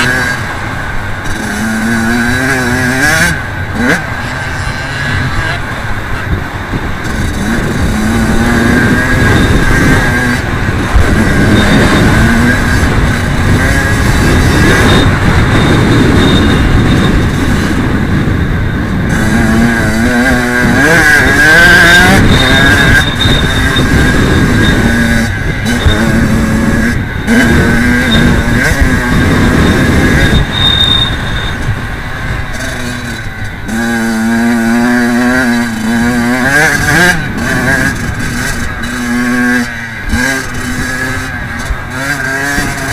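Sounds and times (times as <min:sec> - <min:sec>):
motocross bike engine revving: 0:00.0 - 0:42.9
steady rushing noise: 0:00.0 - 0:42.9.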